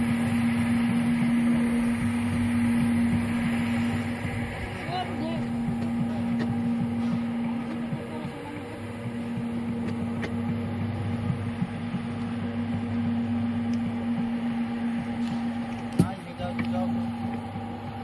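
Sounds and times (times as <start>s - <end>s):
machine motor humming: 0.0s - 18.0s.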